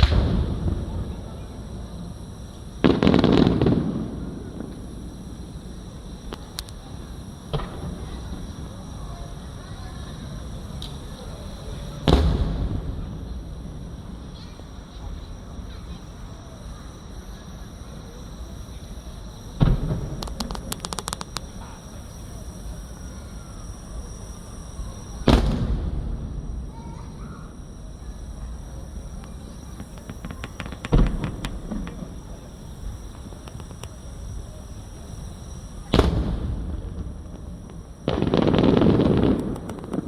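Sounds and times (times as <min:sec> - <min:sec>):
fireworks booming: 0:00.0 - 0:40.0
fireworks crackling: 0:00.0 - 0:40.0.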